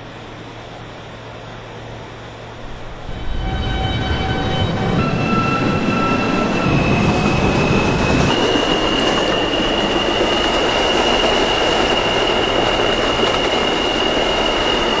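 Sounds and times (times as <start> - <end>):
subway train rumble and rail noise: 0.0 - 15.0
wheels squealing against rail: 2.6 - 15.0.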